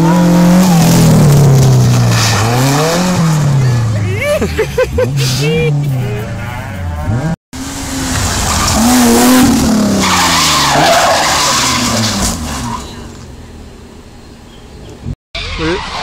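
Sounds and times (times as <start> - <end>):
tyres skidding and scrabbling: 0.0 - 16.0.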